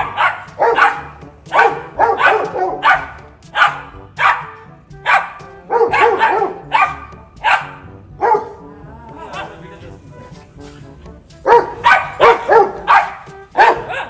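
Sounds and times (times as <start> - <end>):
dog barking: 0.0 - 8.6, 9.4 - 9.6, 11.4 - 14.0
background music: 0.0 - 14.0.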